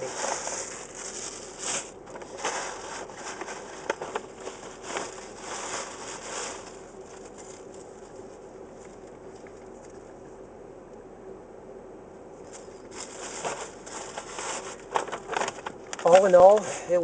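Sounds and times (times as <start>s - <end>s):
paper bag rustling and crinkling: 0.0s - 10.1s, 12.4s - 17.0s.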